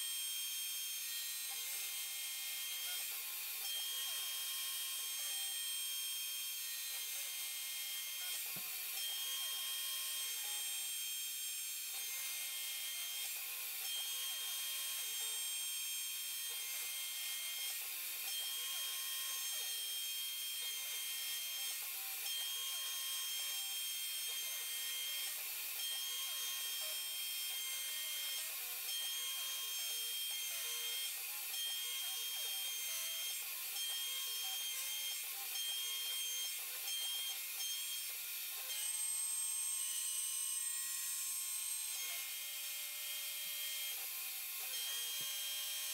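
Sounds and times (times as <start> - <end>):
cnc router milling metal: 0.1 - 45.9.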